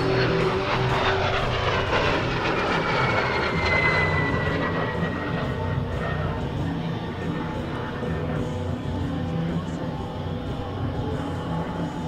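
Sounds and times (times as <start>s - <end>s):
jet engine whine passing: 0.0s - 10.2s.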